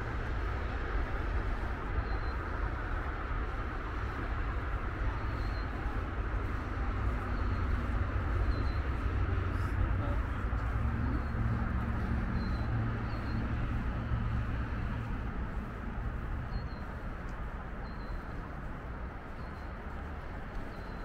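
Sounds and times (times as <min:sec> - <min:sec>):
road traffic drone: 0:00.0 - 0:21.0.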